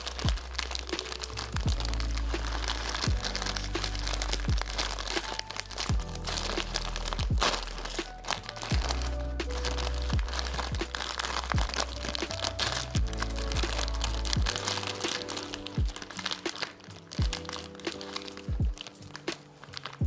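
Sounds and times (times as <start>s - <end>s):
background music with steady beat: 0.0s - 20.0s
dry noodles crackling: 0.0s - 20.0s
plastic packet crinkling: 0.0s - 20.0s.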